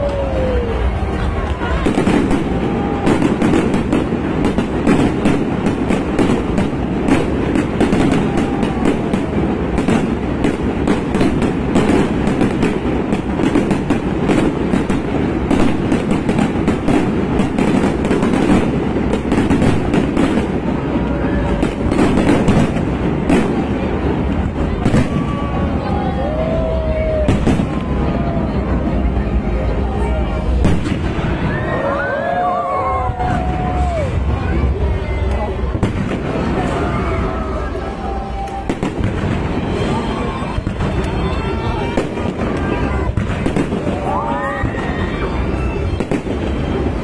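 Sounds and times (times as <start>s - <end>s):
fireworks crackling and popping: 0.0s - 47.0s.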